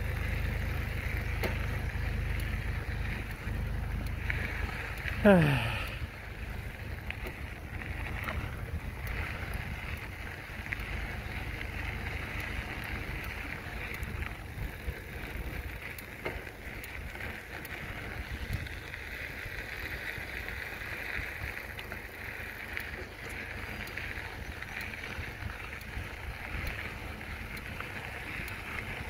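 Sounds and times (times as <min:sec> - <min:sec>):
tyres rolling on path: 0:00.0 - 0:29.0.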